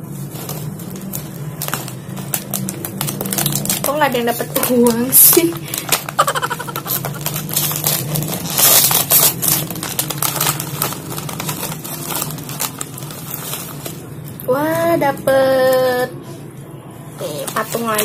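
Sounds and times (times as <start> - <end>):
plastic bag crinkling: 0.0 - 15.8, 17.2 - 18.0.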